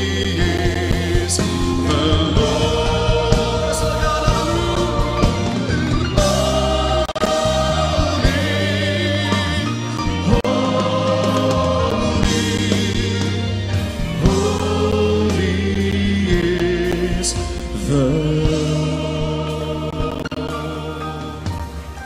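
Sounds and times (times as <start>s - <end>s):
electric bass: 0.0s - 22.0s
gospel choir singing: 0.0s - 22.0s.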